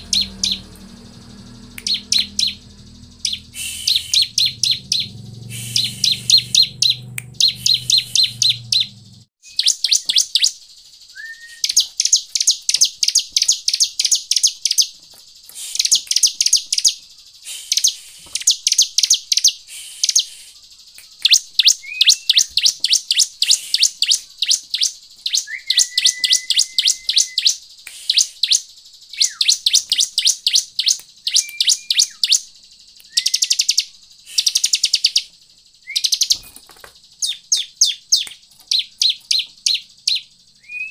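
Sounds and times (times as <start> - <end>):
thin bird whistles: 0.0 - 14.9, 15.5 - 36.5, 37.2 - 40.9
bird ticking song: 0.0 - 40.9.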